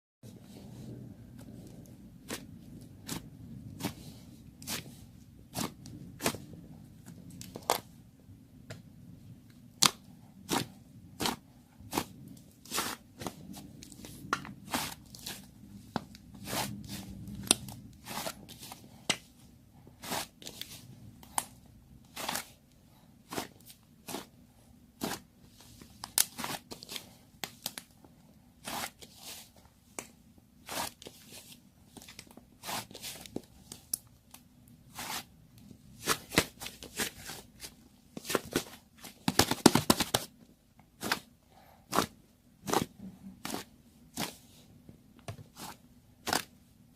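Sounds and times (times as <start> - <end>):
faint low hum: 0.2 - 46.9.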